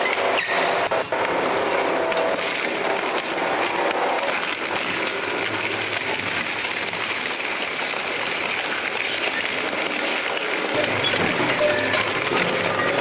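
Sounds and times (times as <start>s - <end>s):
shredder crunching metal: 0.0s - 13.0s.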